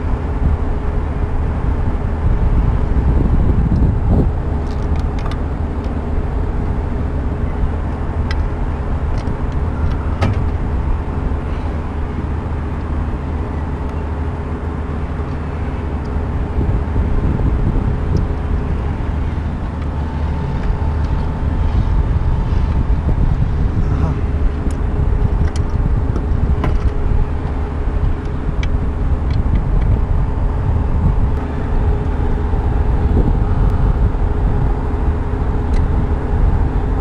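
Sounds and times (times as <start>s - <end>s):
constant hum: 0.0s - 37.0s
steady low rumble: 0.0s - 37.0s.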